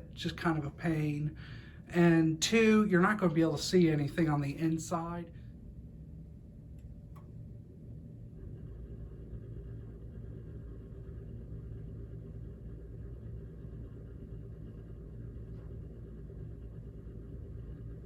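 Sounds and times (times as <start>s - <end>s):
furnace blower humming: 0.0s - 18.0s.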